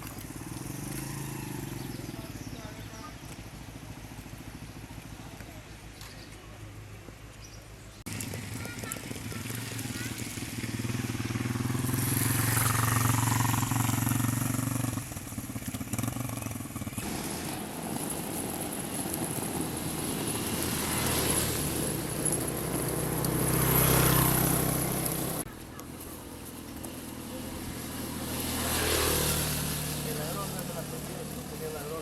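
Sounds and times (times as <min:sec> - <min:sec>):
vehicle engines on road: 0:00.0 - 0:32.0.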